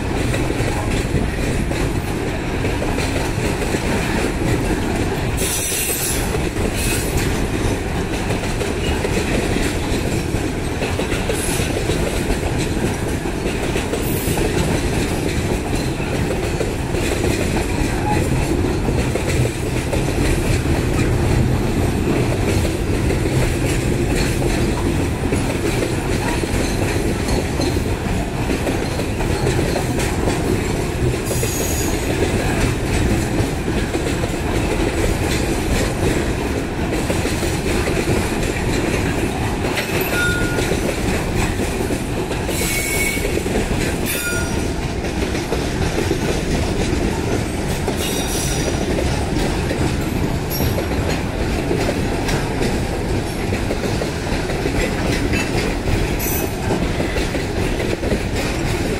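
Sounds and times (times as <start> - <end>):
freight train wheels rumbling: 0.0 - 58.9.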